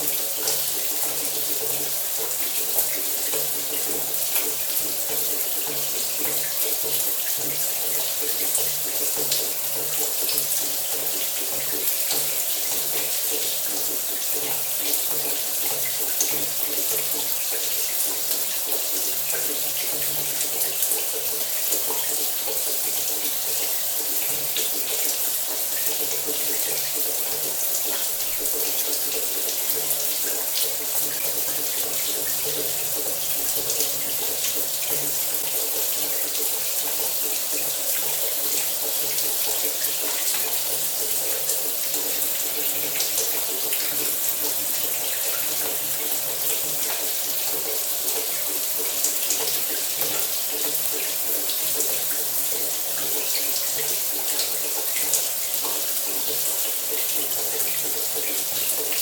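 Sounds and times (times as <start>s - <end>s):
shower water running: 0.0s - 59.0s.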